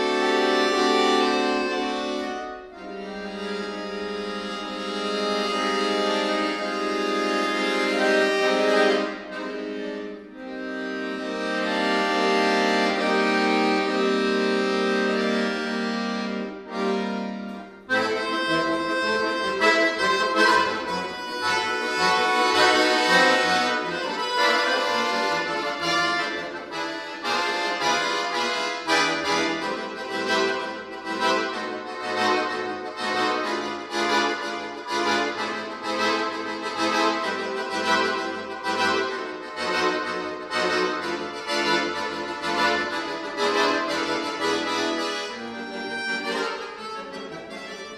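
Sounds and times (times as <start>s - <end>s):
button accordion playing: 0.0s - 47.9s.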